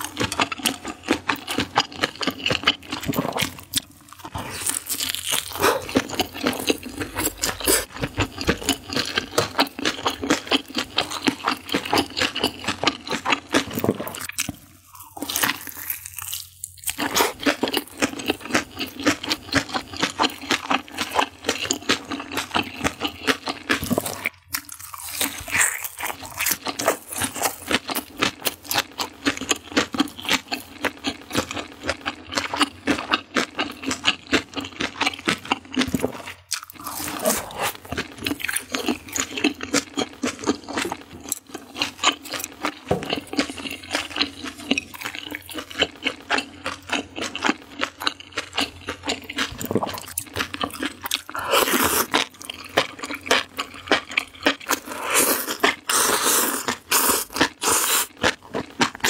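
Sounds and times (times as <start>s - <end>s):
chewing crunchy food: 0.0s - 59.0s.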